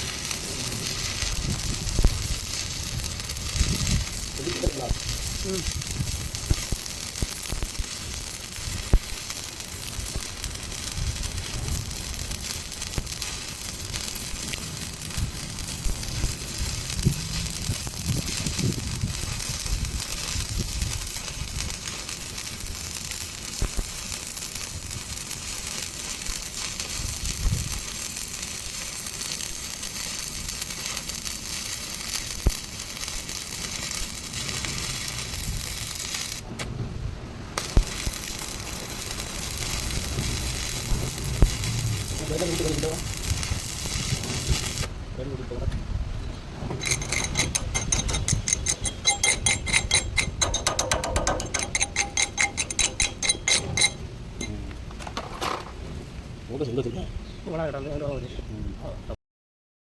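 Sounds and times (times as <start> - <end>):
arc welding crackling sizzle: 0.0 - 58.1.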